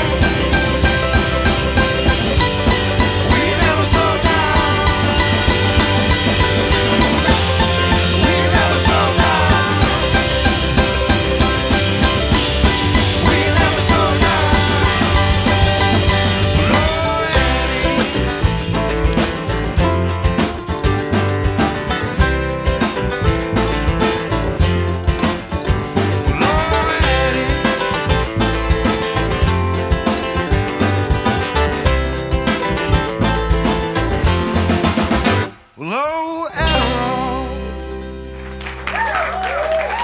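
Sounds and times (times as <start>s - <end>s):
string band with drums: 0.0s - 35.7s, 36.6s - 39.4s
sliding lead lines: 0.0s - 38.9s.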